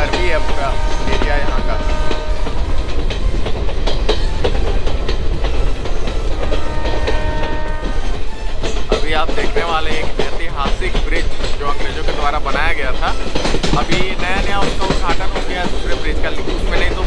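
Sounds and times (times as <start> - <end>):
train rumbling at speed: 0.0 - 17.0
wheels clacking over rail joints: 0.0 - 17.0.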